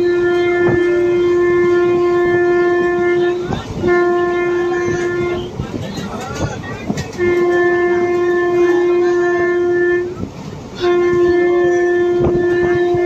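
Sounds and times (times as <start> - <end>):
train horn long blasts: 0.0 - 5.8, 6.5 - 13.0.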